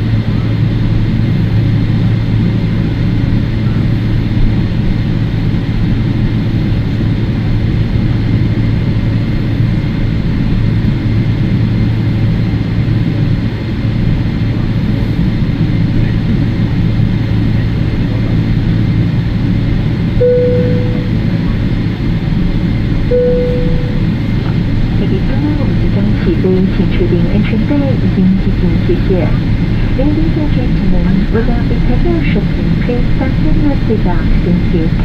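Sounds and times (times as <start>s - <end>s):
airplane cabin engine hum: 0.0s - 35.0s.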